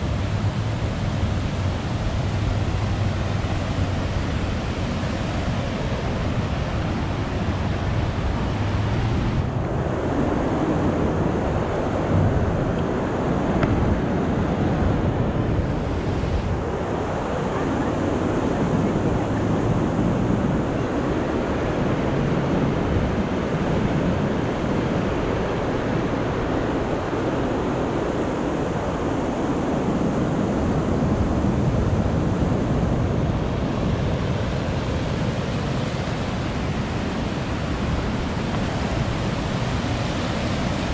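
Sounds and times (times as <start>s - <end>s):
fast-flowing water rushing: 0.0s - 40.9s
wind buffeting microphone: 0.0s - 40.9s.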